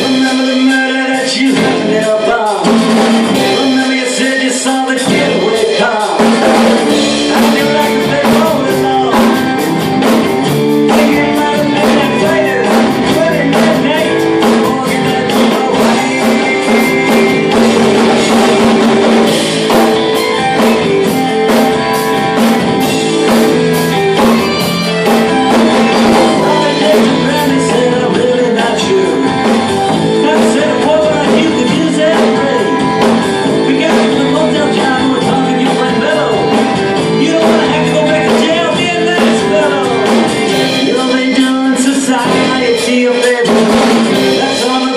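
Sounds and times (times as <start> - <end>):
drum and cymbal hits: 0.0 - 44.9
rock song with singing: 0.0 - 44.9.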